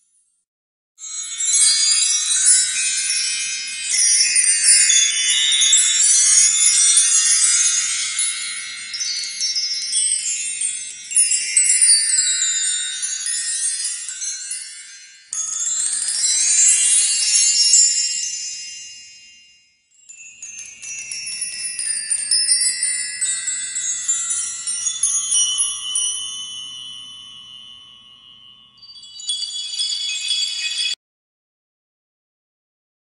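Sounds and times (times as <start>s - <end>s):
twinkling bell-like chimes: 0.0s - 0.4s, 1.0s - 31.0s.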